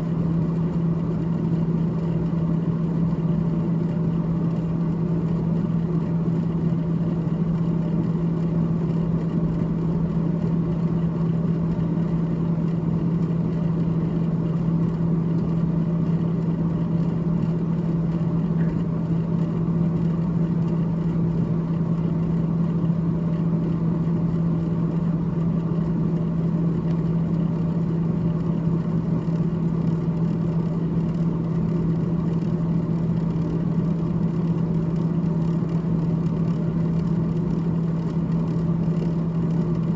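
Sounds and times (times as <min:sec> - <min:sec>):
refrigerator fan humming: 0:00.0 - 0:39.9.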